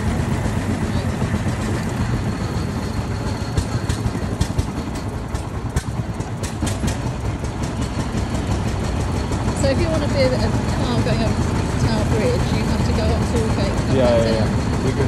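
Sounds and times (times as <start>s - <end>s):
single-cylinder engine running: 0.0s - 15.0s.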